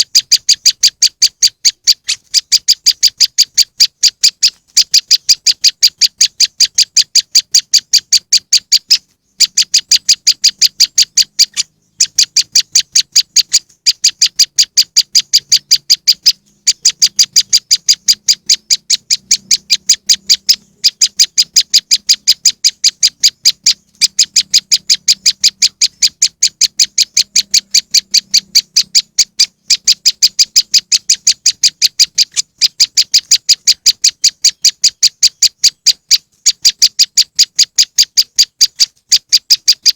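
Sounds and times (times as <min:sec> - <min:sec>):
recorded bird call chips: 0:00.0 - 0:39.9.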